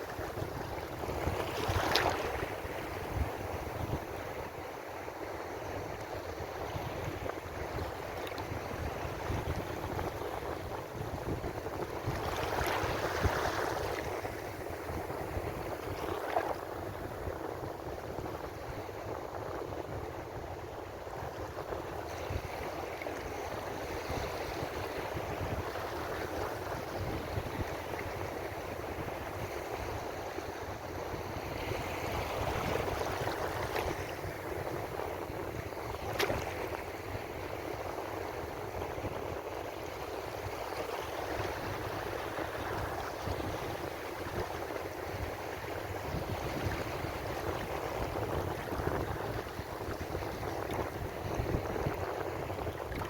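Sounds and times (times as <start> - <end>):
ocean waves washing ashore: 0.0 - 53.0.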